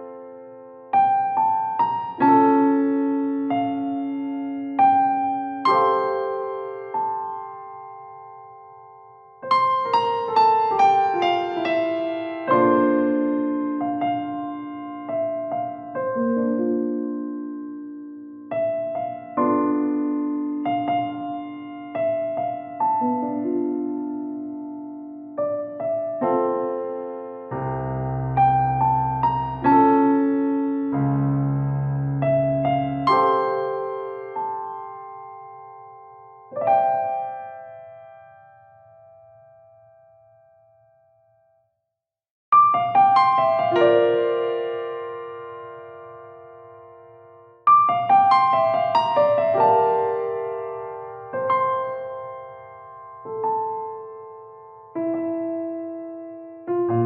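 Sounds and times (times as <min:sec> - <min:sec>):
piano music: 0:00.0 - 0:41.6, 0:42.5 - 0:57.0.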